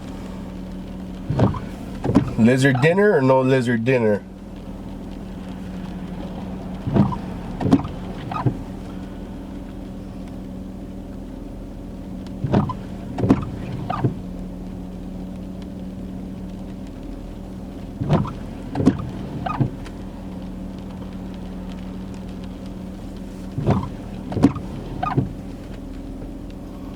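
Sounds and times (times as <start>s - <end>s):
low hum inside car: 0.0s - 26.9s
windshield wipers sweeping wet glass: 0.0s - 26.9s.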